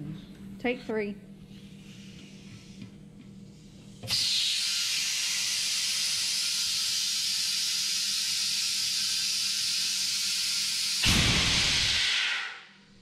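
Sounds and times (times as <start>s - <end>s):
compressed air hissing: 1.5s - 12.8s.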